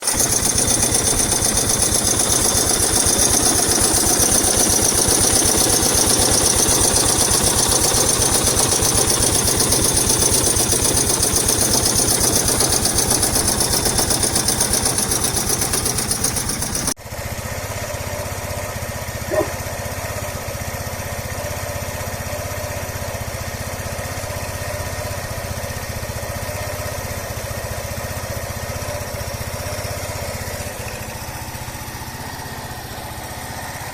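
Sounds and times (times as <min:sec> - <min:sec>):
engine knocking and clattering: 0:00.0 - 0:33.9
engine running smoothly: 0:00.0 - 0:33.9.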